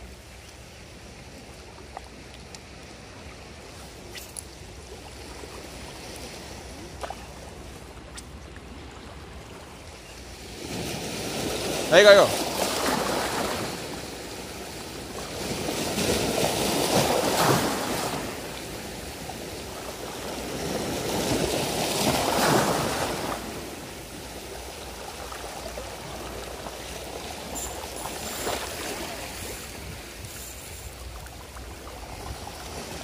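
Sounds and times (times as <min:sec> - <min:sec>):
small waves washing on shore: 0:00.0 - 0:33.0.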